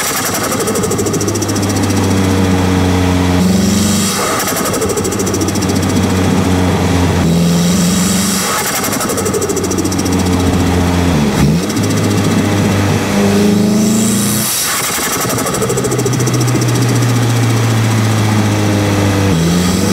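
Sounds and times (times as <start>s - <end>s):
turbo flutter chatter: 0.0s - 18.7s
car engine revving: 0.0s - 19.9s.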